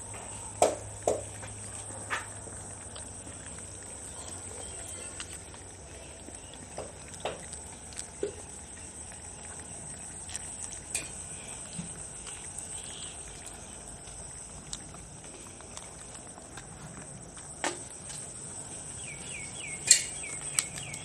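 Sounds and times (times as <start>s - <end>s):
puppies crunching food: 0.0s - 21.0s.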